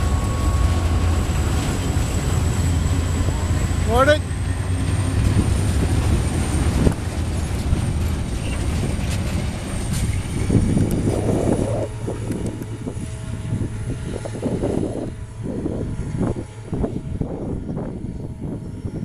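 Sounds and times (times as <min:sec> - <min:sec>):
train wagons rumbling on rails: 0:00.0 - 0:19.0.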